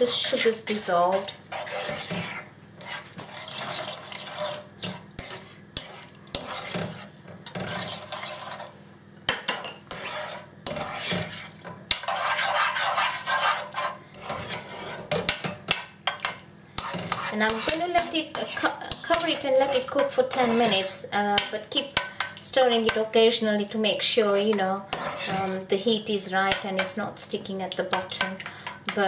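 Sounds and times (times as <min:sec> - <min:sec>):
spoon scraping a pan: 0:00.0 - 0:23.1, 0:24.0 - 0:25.8.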